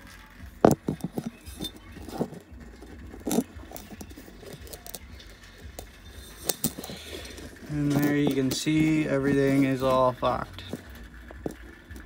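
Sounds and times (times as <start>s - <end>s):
low handling rumble: 0.4s - 12.0s.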